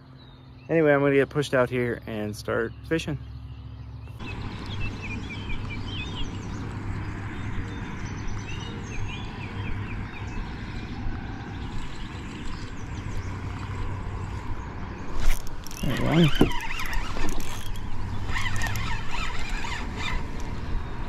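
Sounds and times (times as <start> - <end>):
outdoor noise: 0.0 - 21.0
songbirds chirping: 0.0 - 21.0.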